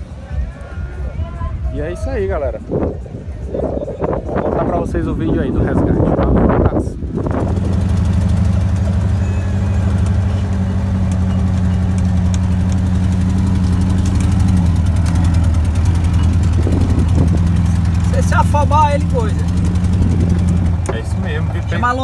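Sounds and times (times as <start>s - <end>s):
dune buggy engine running: 0.0s - 22.0s.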